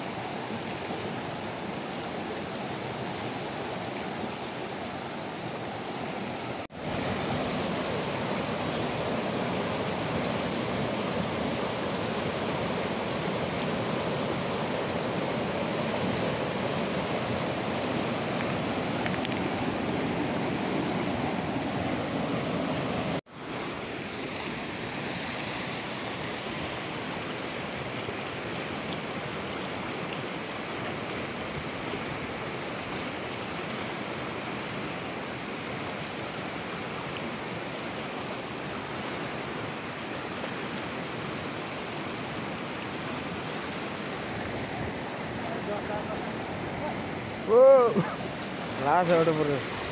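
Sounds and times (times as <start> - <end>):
river rushing over rocks: 0.0 - 49.9.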